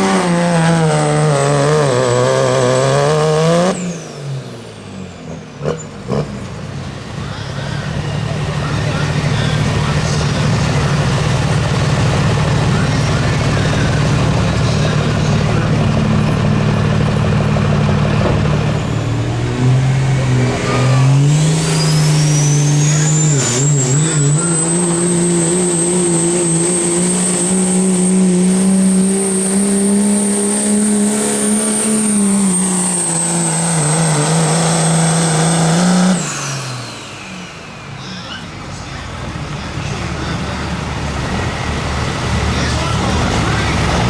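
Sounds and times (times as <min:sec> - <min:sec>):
engine running at high revs: 0:00.0 - 0:44.0
high whine: 0:07.2 - 0:44.0.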